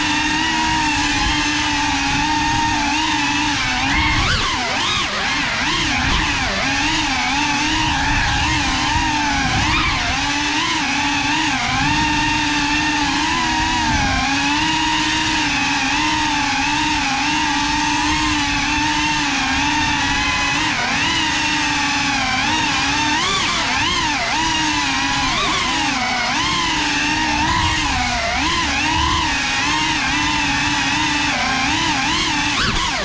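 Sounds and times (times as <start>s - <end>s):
drone motors and propellers whining: 0.0s - 33.0s.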